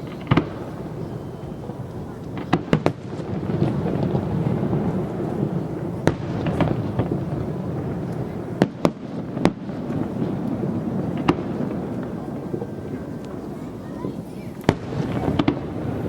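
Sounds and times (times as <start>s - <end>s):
firework shells bursting: 0.0s - 13.5s, 14.5s - 16.0s.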